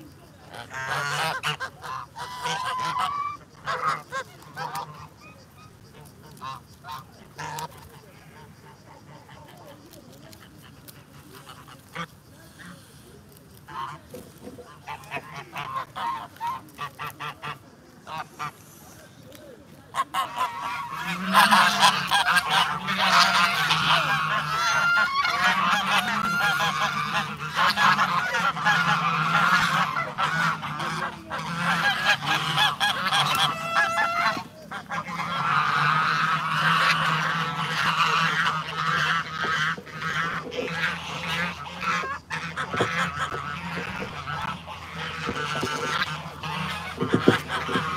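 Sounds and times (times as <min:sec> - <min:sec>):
geese honking: 0:00.0 - 0:47.9.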